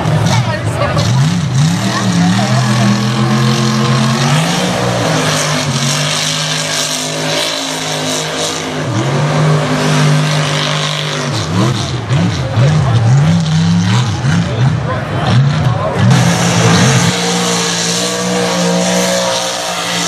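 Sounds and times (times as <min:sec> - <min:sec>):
tires spinning in mud: 0:00.0 - 0:20.0
truck engine revving hard: 0:00.0 - 0:20.0.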